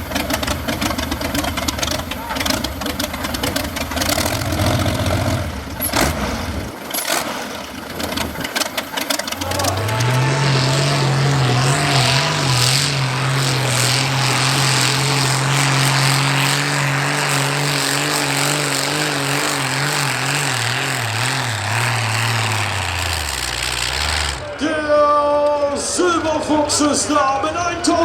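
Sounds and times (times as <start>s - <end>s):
engine running at high revs: 0.0s - 24.8s.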